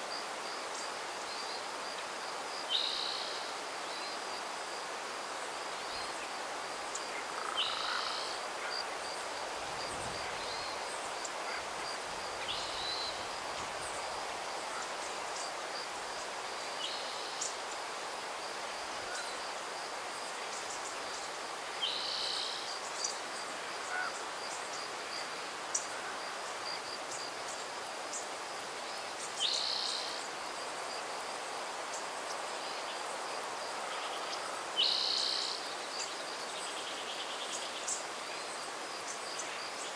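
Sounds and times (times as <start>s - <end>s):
soft breeze hiss: 0.0s - 39.9s.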